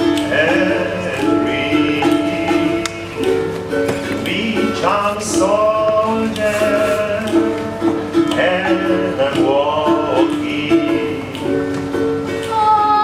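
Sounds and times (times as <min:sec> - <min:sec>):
people singing: 0:00.0 - 0:03.4, 0:04.0 - 0:07.6, 0:08.3 - 0:11.8
ukulele playing: 0:00.0 - 0:13.0.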